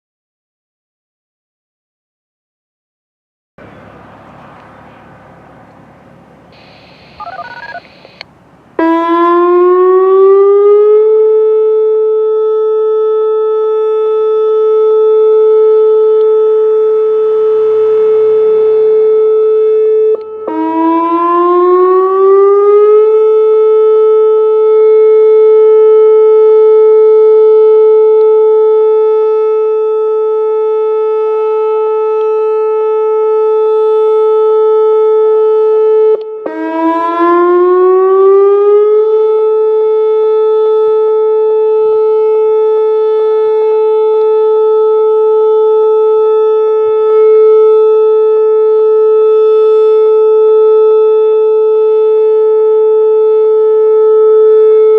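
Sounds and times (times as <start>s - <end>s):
warning siren whoop: 8.8s - 54.9s.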